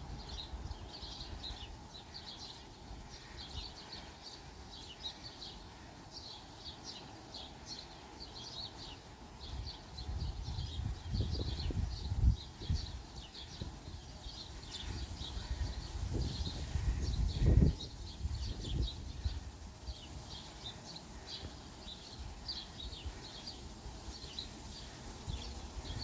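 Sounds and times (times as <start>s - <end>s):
faint outdoor background noise: 0.0s - 26.0s
songbirds chirping: 0.0s - 26.0s.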